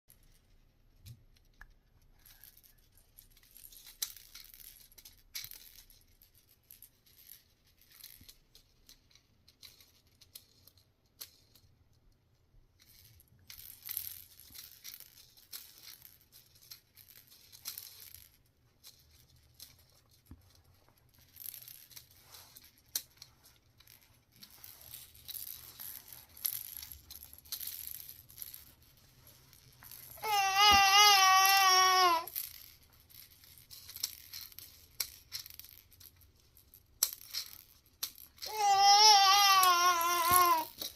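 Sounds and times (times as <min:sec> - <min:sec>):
plastic toys clicking and rattling: 0:00.1 - 0:40.9.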